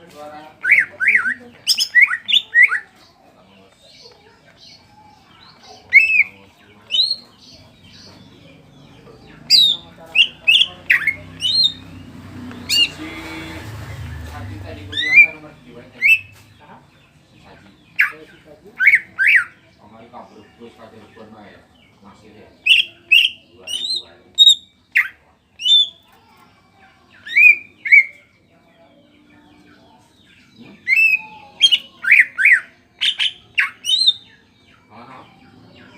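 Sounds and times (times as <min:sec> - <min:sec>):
bird singing sharp piercing calls: 0:00.0 - 0:14.0, 0:14.8 - 0:17.1, 0:17.7 - 0:20.3, 0:22.5 - 0:26.1, 0:27.1 - 0:28.4, 0:30.2 - 0:35.9.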